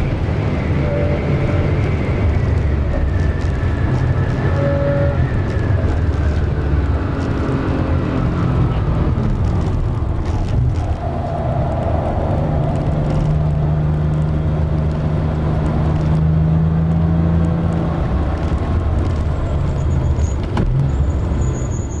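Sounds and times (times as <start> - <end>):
car engine under hard driving: 0.0 - 22.0.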